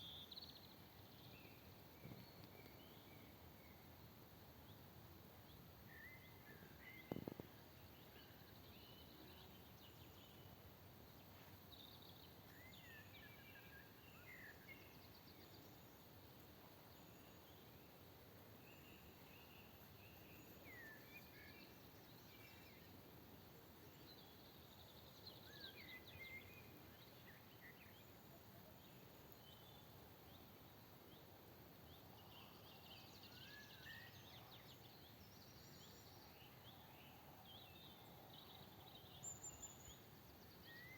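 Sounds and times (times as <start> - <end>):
faint songbirds chirping: 0.0 - 40.9
steady background hiss: 0.0 - 40.9.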